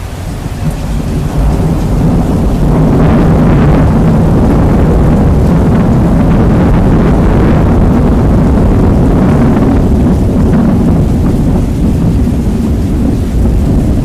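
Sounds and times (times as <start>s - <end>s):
rain: 0.0s - 14.0s
thunder rumble: 0.0s - 14.0s.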